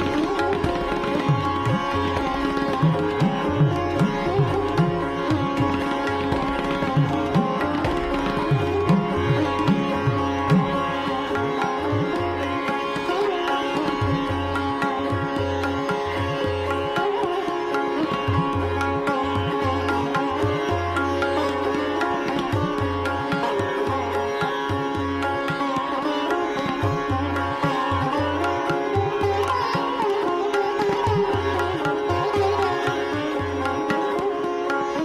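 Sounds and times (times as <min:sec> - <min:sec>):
plucked string melody: 0:00.0 - 0:35.0.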